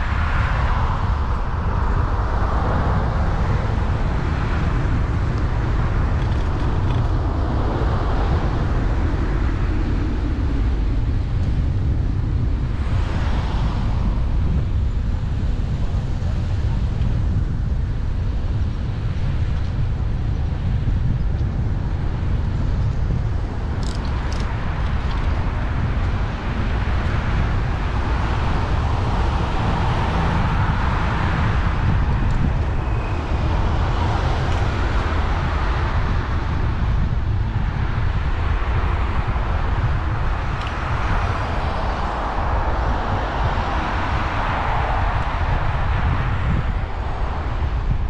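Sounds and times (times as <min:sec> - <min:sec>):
road and traffic noise: 0:00.0 - 0:48.0
wind noise on microphone: 0:00.0 - 0:48.0.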